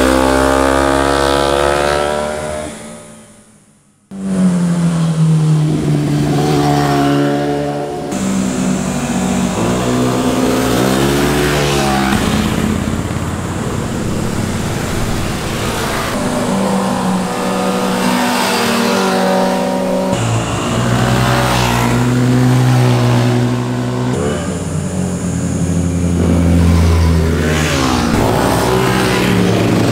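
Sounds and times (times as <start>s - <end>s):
motorcycle engines revving: 0.0s - 29.9s.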